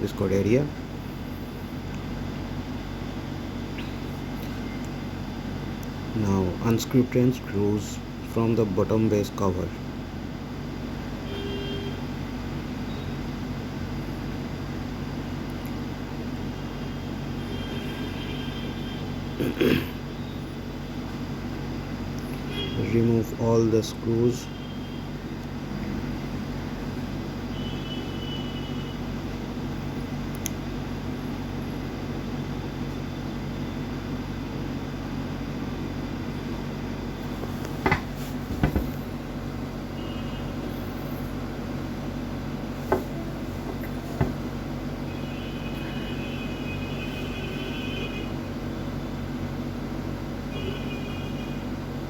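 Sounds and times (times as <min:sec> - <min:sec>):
steady mechanical hum: 0:00.0 - 0:52.0.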